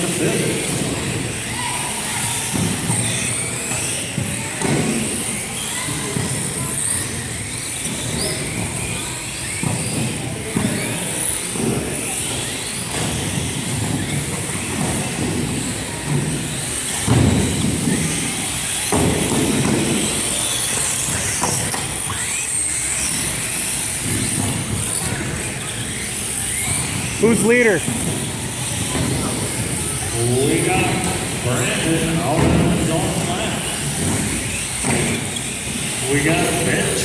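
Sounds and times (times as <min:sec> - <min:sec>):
rc car motors whining: 0:00.0 - 0:37.0.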